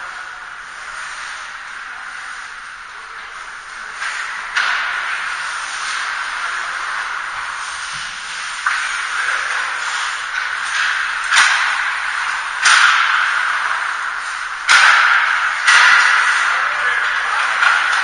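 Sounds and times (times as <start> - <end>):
hockey sticks and puck clacking: 0.0 - 18.0
ice skates scraping on ice: 0.0 - 18.0.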